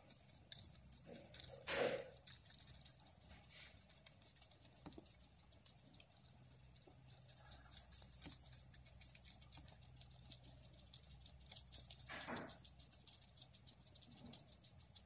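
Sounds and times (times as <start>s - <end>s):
guinea pigs chewing cucumber: 0.0s - 15.0s.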